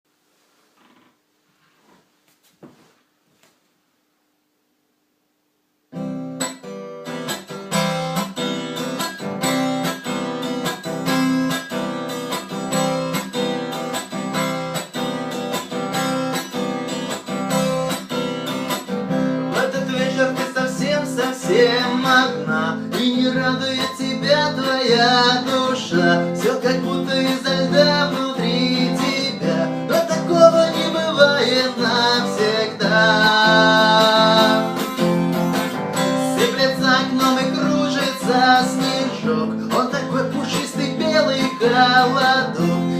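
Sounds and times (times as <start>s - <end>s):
acoustic guitar picking: 5.9s - 42.9s.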